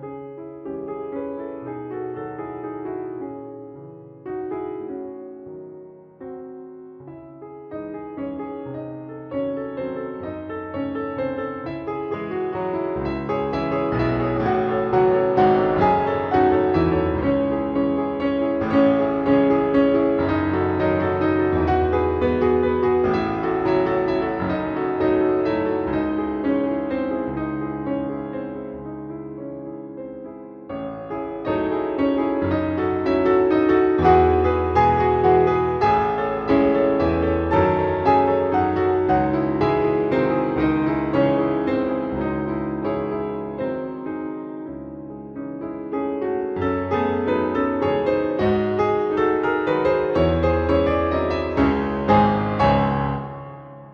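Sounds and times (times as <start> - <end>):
gentle piano music: 0.0 - 53.9.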